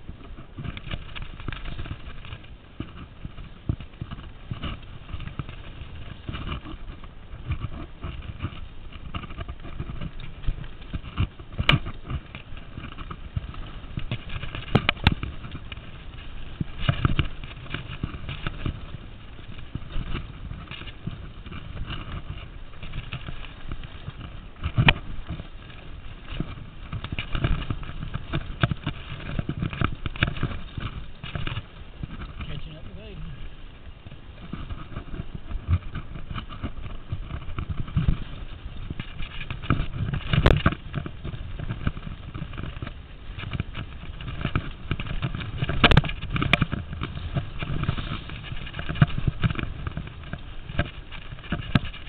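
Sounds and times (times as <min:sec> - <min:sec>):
bike rattling over dirt trail: 0:00.0 - 0:52.0.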